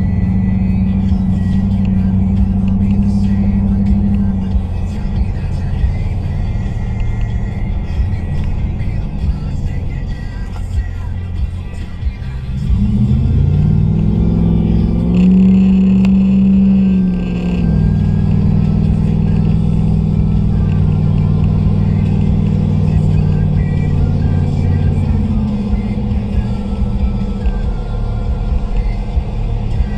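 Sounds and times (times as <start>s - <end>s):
truck engine accelerating: 0.0s - 29.9s.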